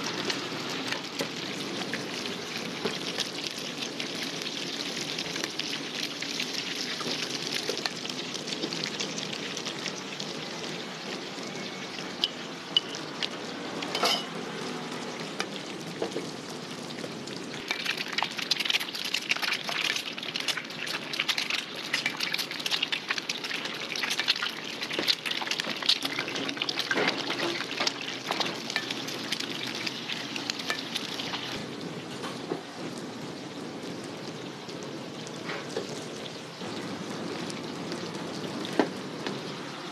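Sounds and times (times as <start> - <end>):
eggs sizzling in hot oil: 0.0 - 39.9.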